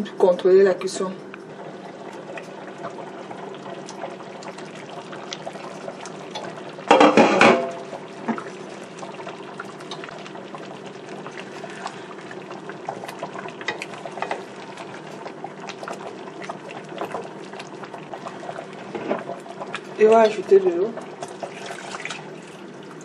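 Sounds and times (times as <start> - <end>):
sauce bubbling in a frying pan: 1.2 - 23.0.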